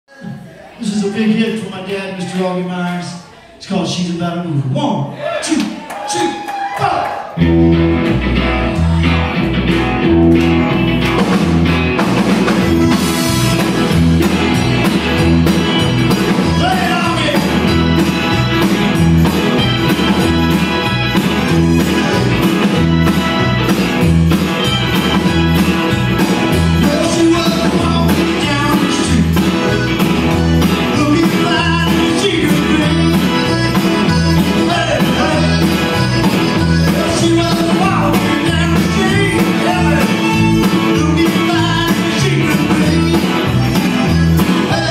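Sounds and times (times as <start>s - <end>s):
live rock band playing: 7.3s - 44.9s.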